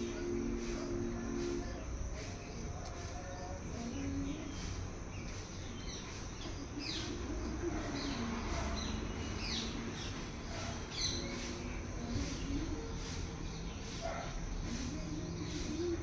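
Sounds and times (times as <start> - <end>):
low outdoor rumble: 0.0 - 13.8
small birds chirping: 0.0 - 16.0.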